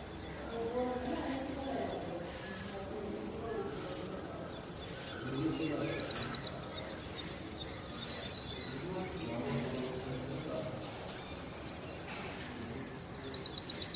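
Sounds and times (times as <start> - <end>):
birds chirping and trilling: 0.0 - 13.9.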